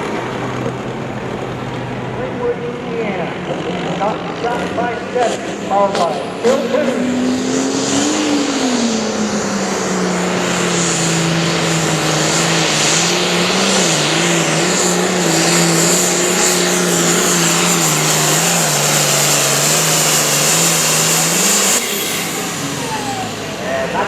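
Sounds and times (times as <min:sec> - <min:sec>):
engine running hard under load: 0:00.0 - 0:24.0.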